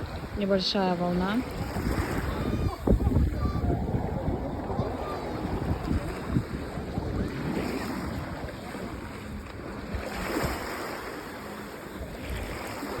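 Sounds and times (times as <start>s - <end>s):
small waves washing on shore: 0.0s - 13.0s
wind on microphone: 0.0s - 13.0s.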